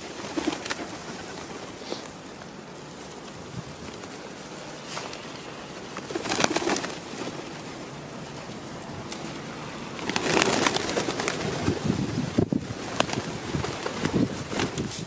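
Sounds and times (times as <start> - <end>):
pigeons cooing: 0.0 - 14.8
wings flapping: 0.0 - 15.0.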